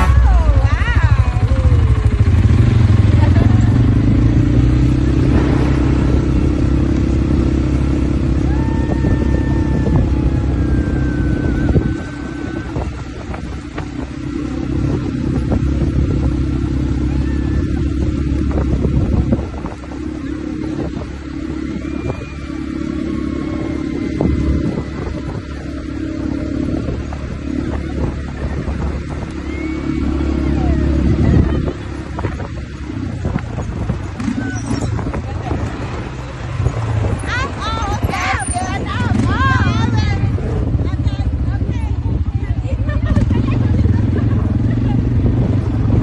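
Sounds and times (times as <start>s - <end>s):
quad bike engines running: 0.0s - 46.0s.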